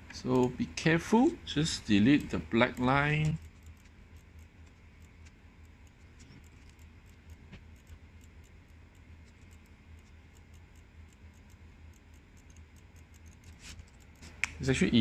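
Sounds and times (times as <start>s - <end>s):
low steady hum: 0.0s - 15.0s
computer mouse and keyboard clicks: 1.7s - 14.8s.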